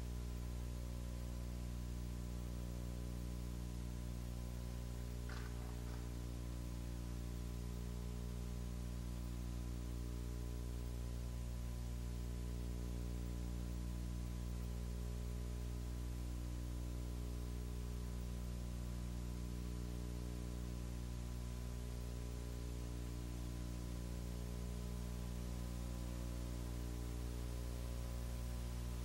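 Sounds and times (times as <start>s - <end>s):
constant hiss: 0.0s - 29.0s
steady electrical hum: 0.0s - 29.0s.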